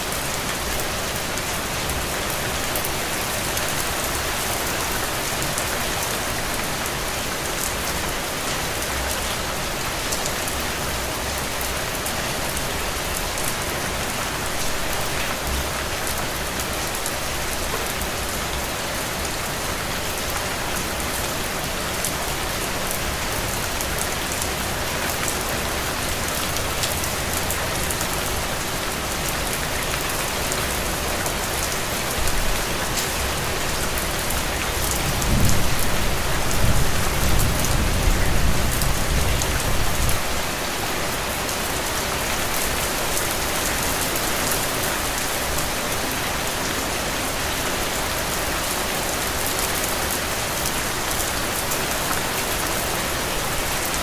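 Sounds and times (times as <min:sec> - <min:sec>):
heavy rain on ground and puddles: 0:00.0 - 0:54.0.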